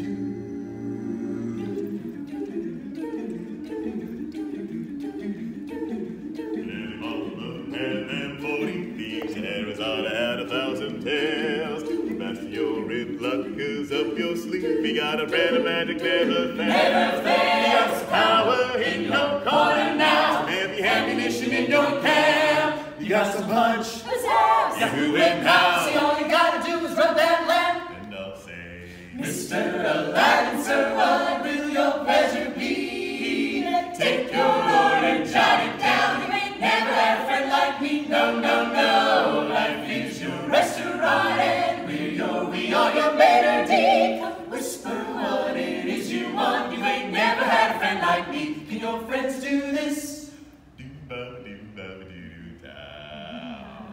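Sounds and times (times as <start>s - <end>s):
mixed choir singing a cappella: 0.0s - 53.9s.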